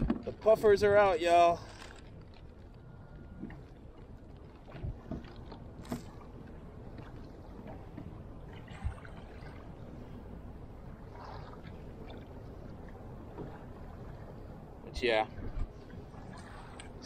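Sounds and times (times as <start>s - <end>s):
water splashing against kayak hull: 0.0s - 14.6s
low water rush: 0.0s - 17.0s.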